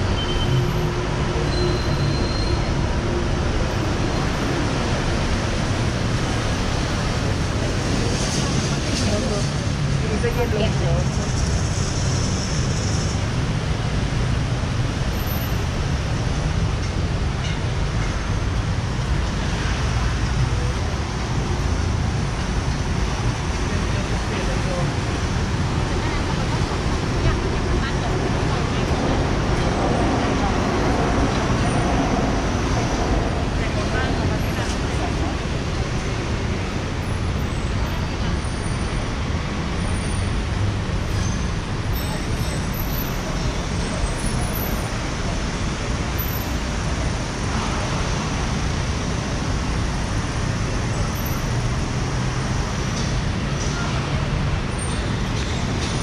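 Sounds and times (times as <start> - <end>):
passing traffic rumble: 0.0 - 56.0.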